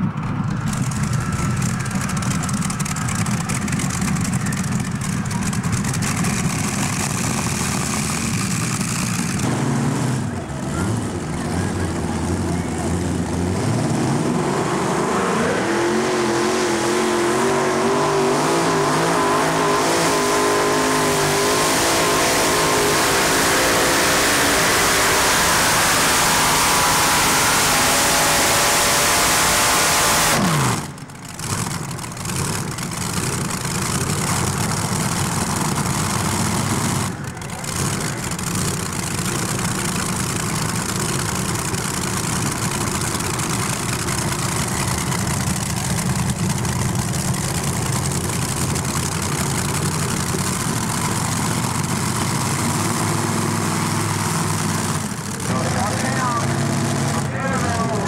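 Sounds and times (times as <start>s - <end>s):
engines at rough low idle: 0.0s - 15.0s, 17.3s - 58.0s
pulling tractor engines at full throttle: 0.0s - 58.0s.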